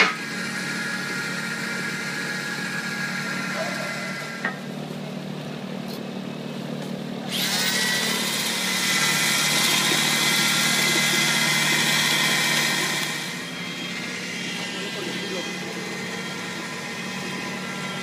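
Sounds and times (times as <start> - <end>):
electric drill mixing whine: 0.0 - 4.7, 7.2 - 18.0.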